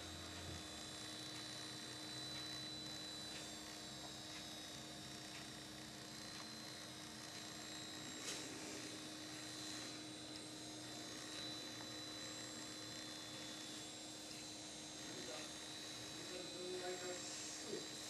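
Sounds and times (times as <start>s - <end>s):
electrical hum and hiss: 0.0s - 18.0s
faint high steady tones: 0.0s - 18.0s.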